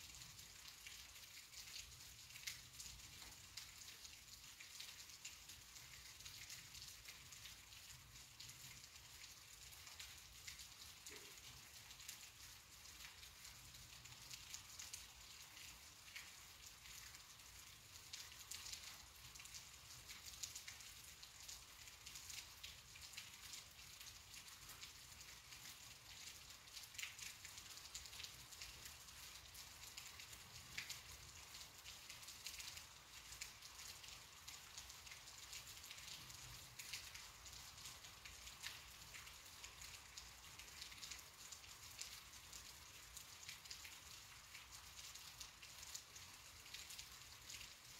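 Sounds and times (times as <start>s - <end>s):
faint rain patter: 0.0s - 47.9s.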